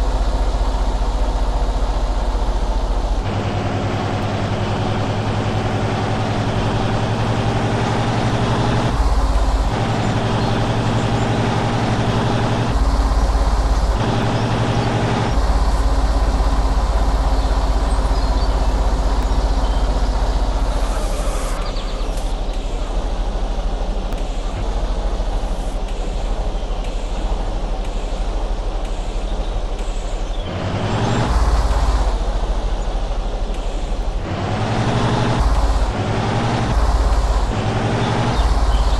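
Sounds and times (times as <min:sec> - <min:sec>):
heavy truck engine running: 0:00.0 - 0:38.9.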